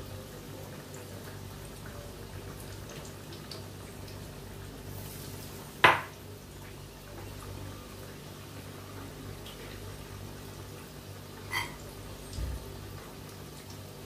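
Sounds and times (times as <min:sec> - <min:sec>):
oil sizzling in a wok: 0:00.0 - 0:14.0.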